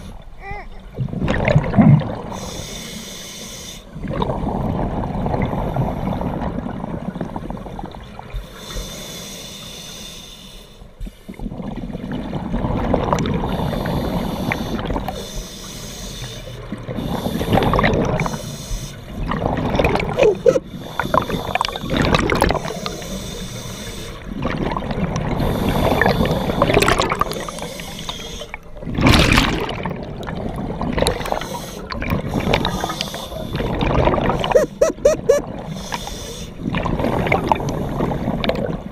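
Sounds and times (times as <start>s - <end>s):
exhaled bubbles rumbling underwater: 0.0s - 2.8s, 3.9s - 8.8s, 11.0s - 15.5s, 16.4s - 38.9s.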